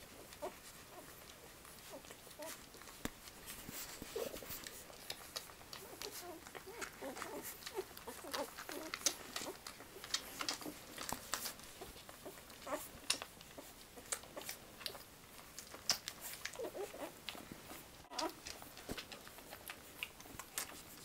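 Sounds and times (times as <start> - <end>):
puppies squeaking and grunting: 0.0 - 21.0.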